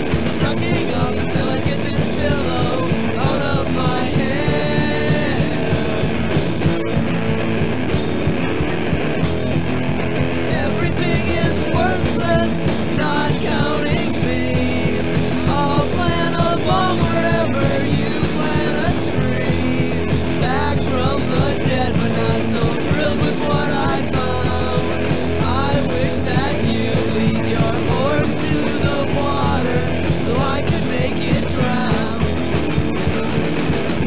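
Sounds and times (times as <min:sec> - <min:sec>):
person singing: 0:00.0 - 0:06.5, 0:10.5 - 0:33.5
rock band playing: 0:00.0 - 0:34.0.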